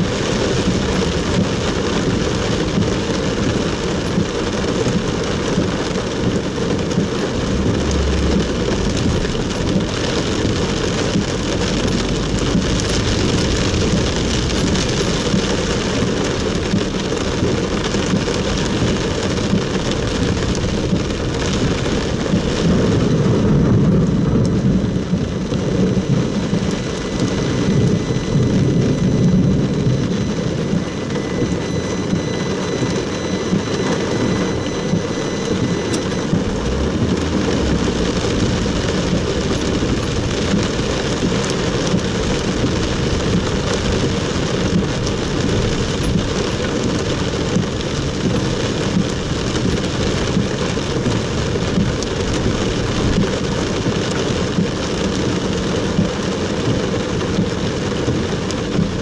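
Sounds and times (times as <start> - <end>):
heavy rain on a car roof: 0.0 - 59.0.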